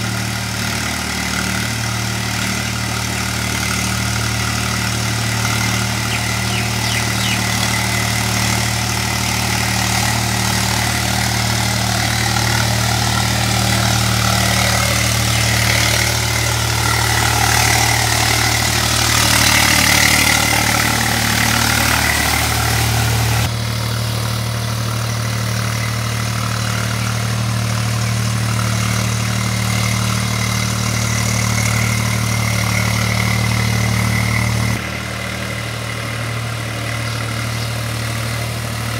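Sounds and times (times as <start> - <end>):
tractor diesel engine running: 0.0 - 38.9
wheels churning water and mud: 0.0 - 38.9.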